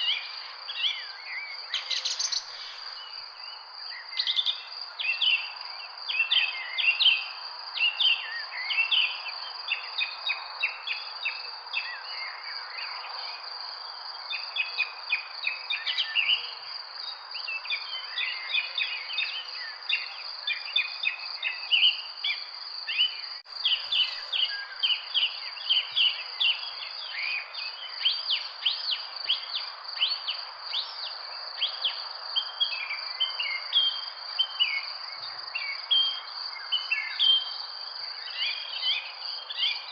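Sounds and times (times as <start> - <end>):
small birds chirping: 0.0 - 12.9, 14.3 - 39.9
insect trill: 0.0 - 39.9.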